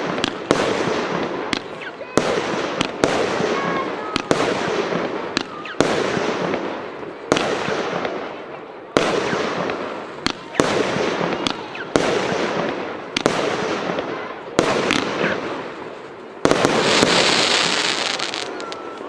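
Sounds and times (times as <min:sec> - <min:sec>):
firework bangs with crackle: 0:00.0 - 0:19.0
hissing firework crackle: 0:00.0 - 0:19.0.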